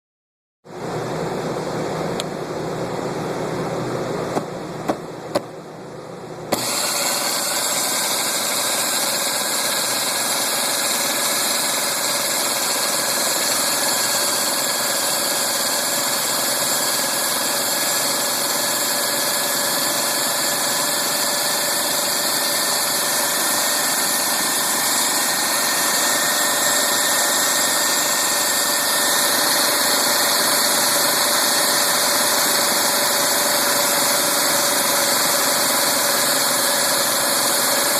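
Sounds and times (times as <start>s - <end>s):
motor running with high whine: 6.4s - 37.9s.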